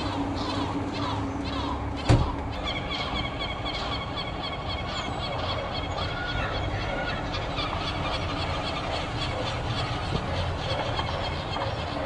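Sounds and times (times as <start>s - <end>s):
gulls calling harshly: 0.0s - 12.0s.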